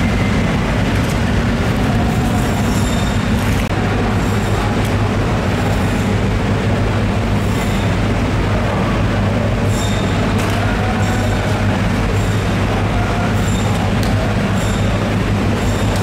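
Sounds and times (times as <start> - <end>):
mechanical drone with low hum: 0.0 - 16.0.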